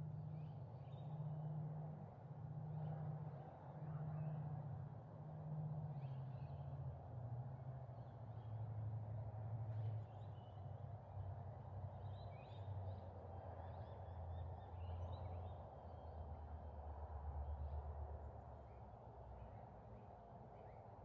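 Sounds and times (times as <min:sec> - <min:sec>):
outdoor ambient rumble and hiss: 0:00.0 - 0:21.0.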